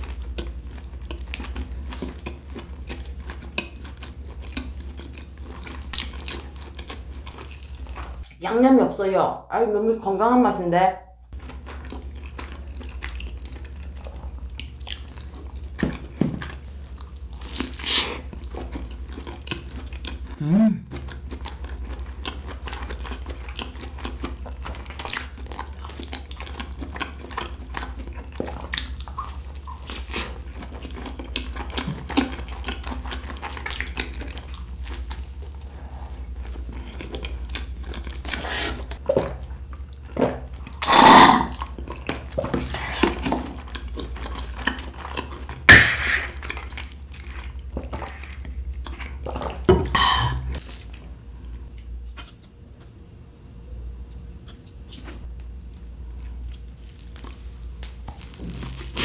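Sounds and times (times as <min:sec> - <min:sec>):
person chewing food: 0:00.0 - 0:08.3, 0:11.3 - 0:53.0, 0:54.1 - 0:59.0
steady low hum: 0:00.0 - 0:59.0.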